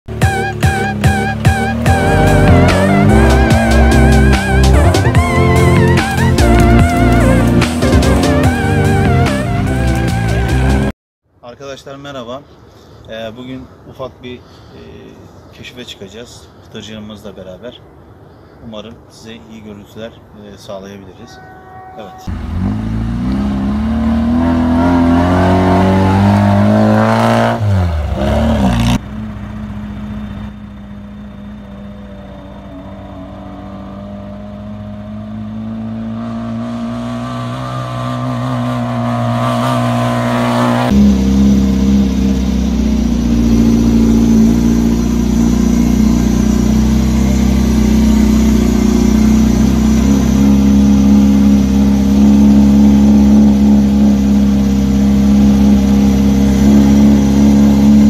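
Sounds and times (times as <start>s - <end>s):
off-road vehicle engine revving: 0.1s - 10.9s, 22.3s - 58.0s.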